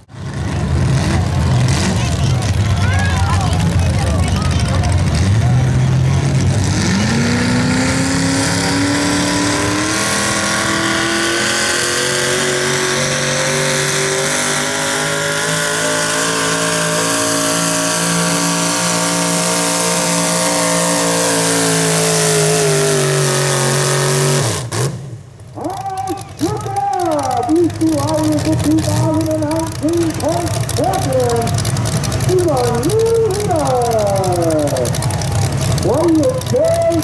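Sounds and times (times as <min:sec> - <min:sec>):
truck engine at full throttle: 0:00.0 - 0:37.0.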